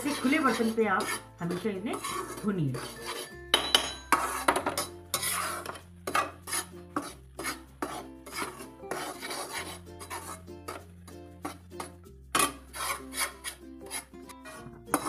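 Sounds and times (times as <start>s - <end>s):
metal spatula scraping a pan: 0.0s - 15.0s.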